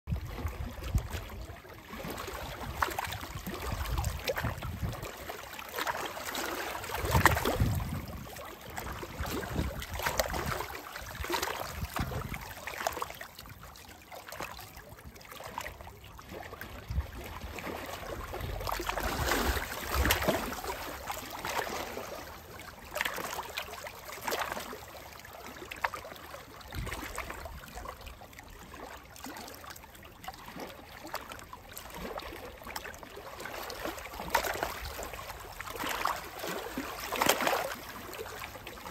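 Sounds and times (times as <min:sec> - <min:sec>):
waves lapping against rocks: 0:00.1 - 0:38.9.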